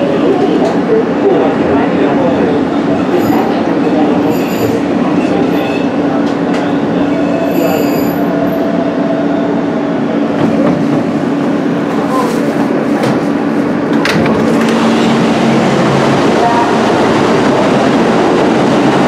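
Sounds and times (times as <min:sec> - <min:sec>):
wheel and track rumble: 0:00.0 - 0:19.0.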